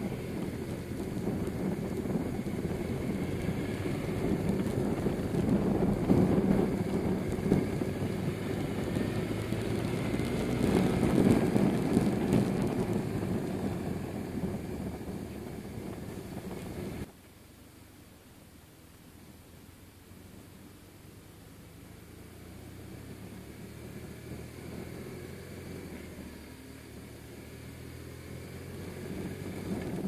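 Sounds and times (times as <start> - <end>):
motorcycle engine running: 0.0 - 17.1, 21.9 - 30.0
road and wind noise: 0.0 - 30.0.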